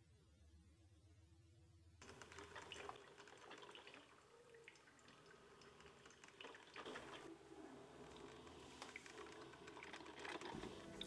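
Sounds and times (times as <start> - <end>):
coffee maker gurgling and dripping: 2.0 - 11.0.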